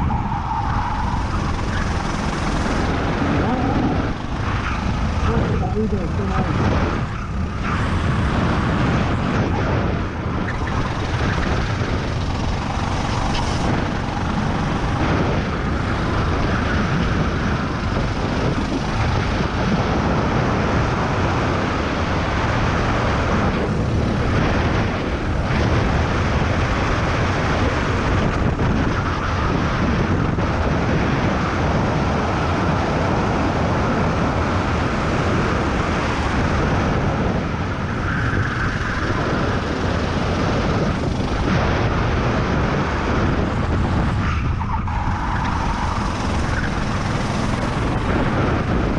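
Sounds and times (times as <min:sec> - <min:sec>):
kart engine running hard: 0:00.0 - 0:48.9
wind rushing over microphone: 0:00.0 - 0:48.9.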